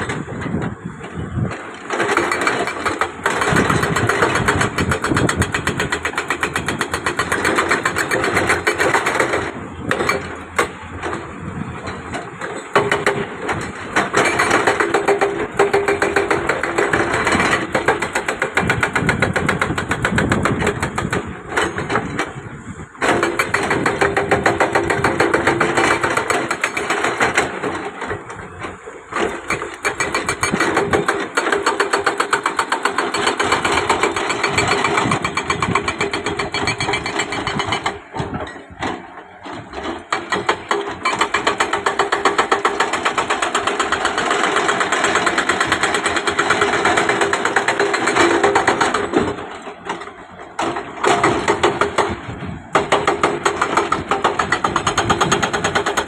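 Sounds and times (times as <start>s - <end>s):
excavator pulsing: 0.0s - 56.0s.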